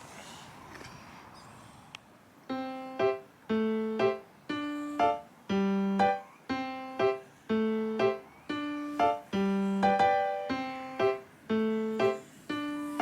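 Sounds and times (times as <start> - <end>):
faint background noise: 0.0 - 13.0
keyboard playing repeating notes: 2.5 - 13.0.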